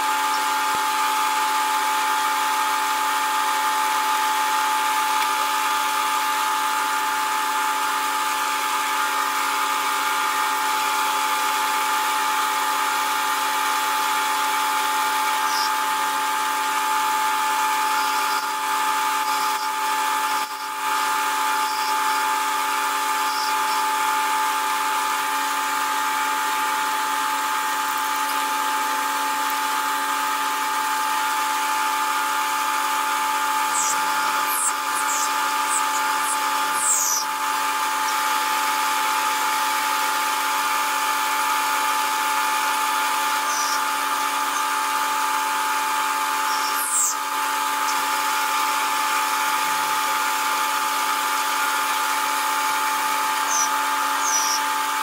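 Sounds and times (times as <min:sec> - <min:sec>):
metal lathe motor whine: 0:00.0 - 0:55.0.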